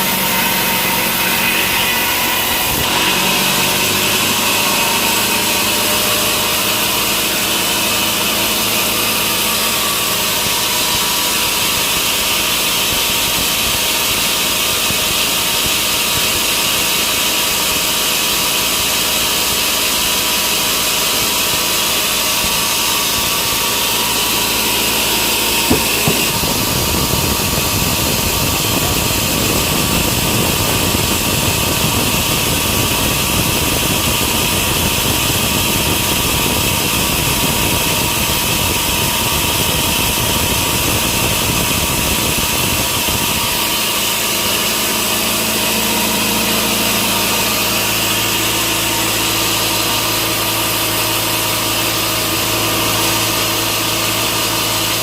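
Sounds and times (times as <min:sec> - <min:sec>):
sawmill machinery engine running: 0:00.0 - 0:55.0.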